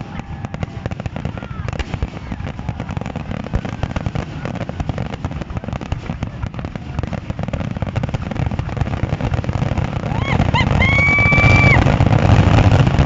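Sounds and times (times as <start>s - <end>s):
fireworks cracking and popping: 0.0s - 13.0s
low rumble of fireworks bangs: 0.0s - 13.0s.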